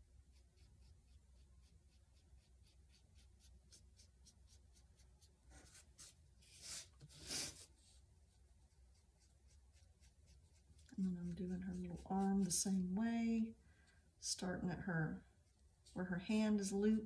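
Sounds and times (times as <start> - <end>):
paintbrush strokes on a painting: 0.0 - 17.0.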